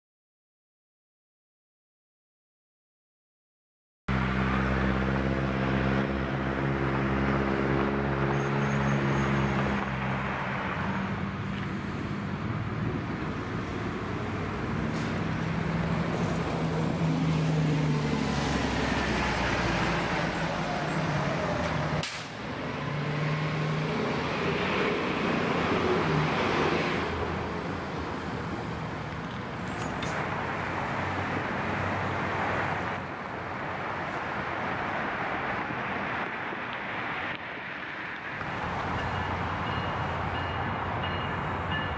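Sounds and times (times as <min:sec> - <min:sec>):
road traffic passing: 0:04.1 - 0:41.9.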